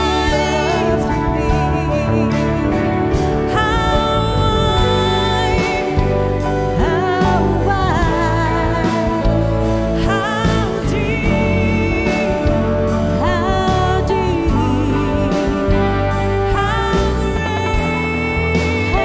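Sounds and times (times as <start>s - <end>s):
person singing long notes: 0.0s - 19.0s
worship band playing: 0.0s - 19.0s.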